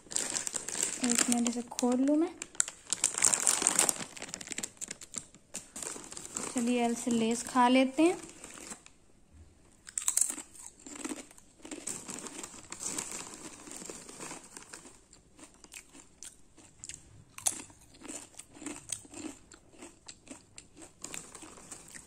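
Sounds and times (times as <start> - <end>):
chips crunching: 0.0 - 7.5, 8.2 - 8.8, 9.8 - 22.0.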